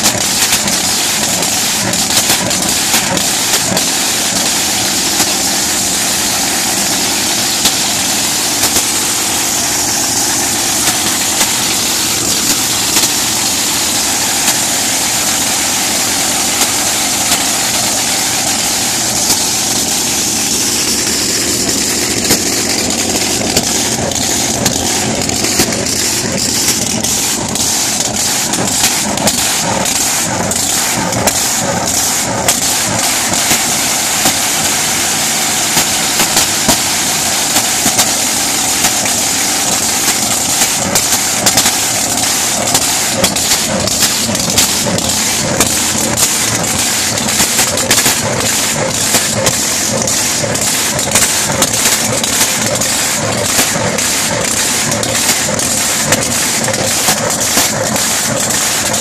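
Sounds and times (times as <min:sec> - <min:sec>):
engine crackles: 0:00.0 - 0:59.0
engine idling loudly: 0:00.0 - 0:59.0.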